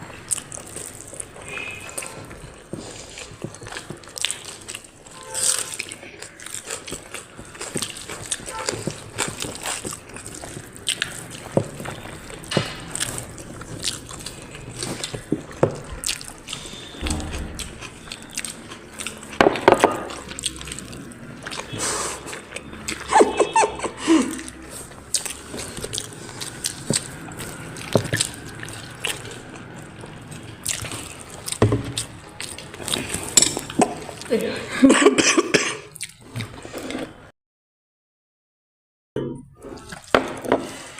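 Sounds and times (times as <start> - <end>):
chewing: 0.0 - 23.4, 24.2 - 34.6, 35.8 - 37.3, 39.6 - 40.9.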